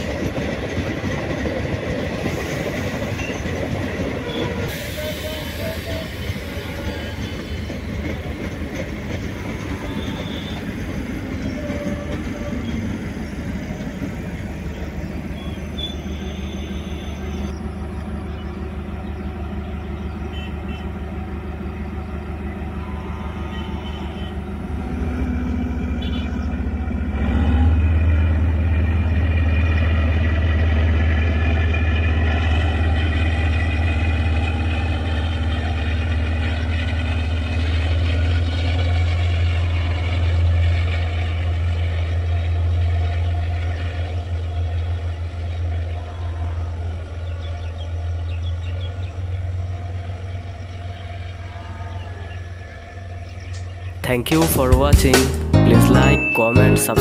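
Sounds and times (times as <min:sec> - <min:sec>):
coaches rumbling: 0:00.0 - 0:57.0
diesel train engine hum: 0:00.0 - 0:57.0.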